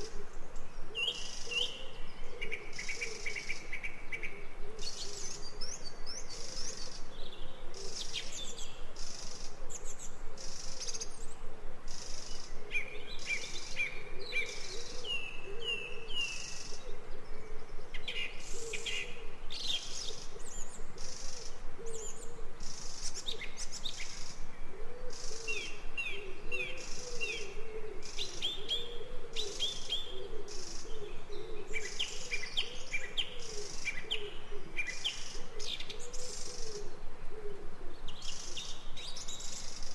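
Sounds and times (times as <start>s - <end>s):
birds chirping and singing: 0.0s - 36.8s, 38.0s - 39.9s.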